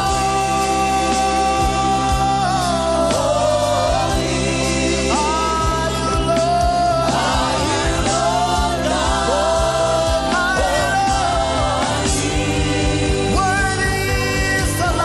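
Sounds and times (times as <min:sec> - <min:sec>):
band playing steady beat: 0:00.0 - 0:15.0
choir backing singers: 0:00.0 - 0:15.0
gospel singing: 0:00.0 - 0:15.0.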